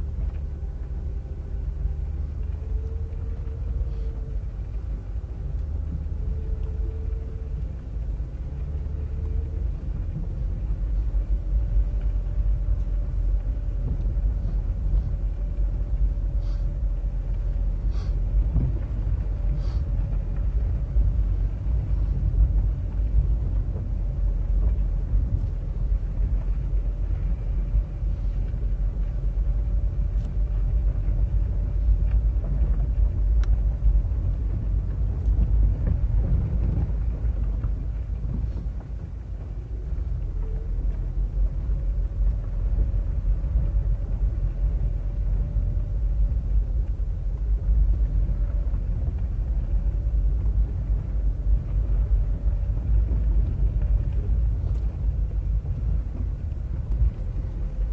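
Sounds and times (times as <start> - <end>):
engine and tyres on gravel: 0.0 - 57.9
faint steady whine: 0.0 - 57.9.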